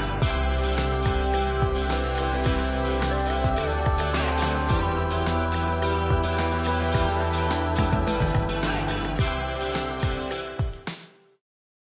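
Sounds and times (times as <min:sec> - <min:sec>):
steady drum beat: 0:00.0 - 0:10.9
music with held notes: 0:00.0 - 0:11.0.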